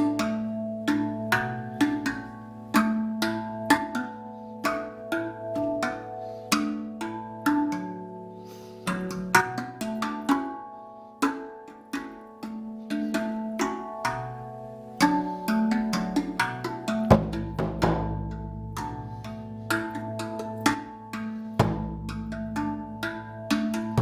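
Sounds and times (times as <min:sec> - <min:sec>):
steel tongue drum notes: 0:00.0 - 0:24.0.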